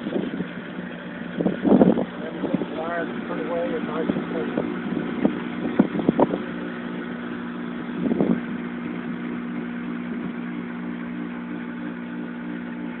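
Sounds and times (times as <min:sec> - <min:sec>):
electric pool pump motor humming: 0:00.0 - 0:13.0.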